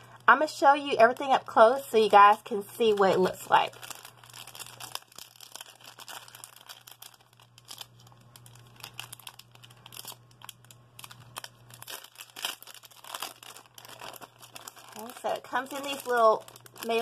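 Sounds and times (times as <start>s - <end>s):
faint electrical hum: 0.0s - 17.0s
plastic bag crinkling: 0.0s - 17.0s.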